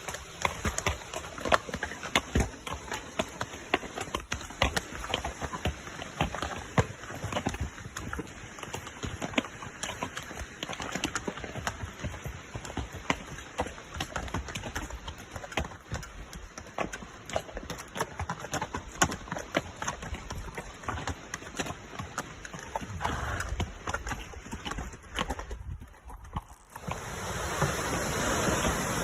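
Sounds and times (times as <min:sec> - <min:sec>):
horse hoofbeats clip-clopping: 0:00.0 - 0:29.0.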